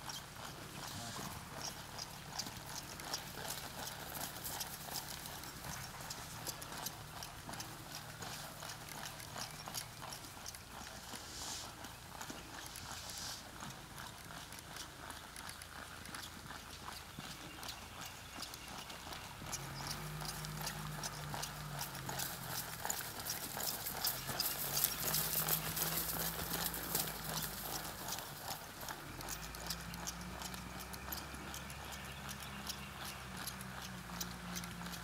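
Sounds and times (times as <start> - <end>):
horse hoofbeats on dirt: 0.0 - 35.0.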